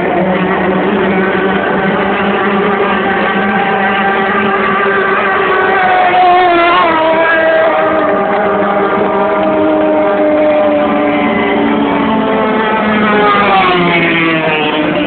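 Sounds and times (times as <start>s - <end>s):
motorboat engine running hard: 0.0s - 13.4s.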